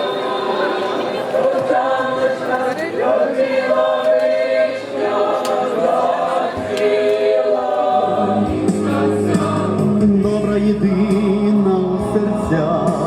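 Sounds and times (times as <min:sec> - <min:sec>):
choir singing long held notes: 0:00.0 - 0:10.8.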